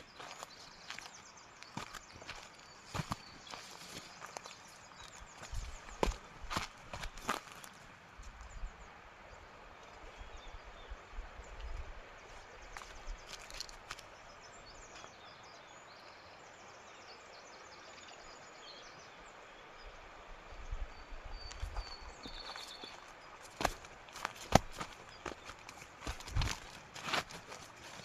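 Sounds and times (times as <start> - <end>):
small birds chirping: 0.0 - 20.0, 20.6 - 28.0.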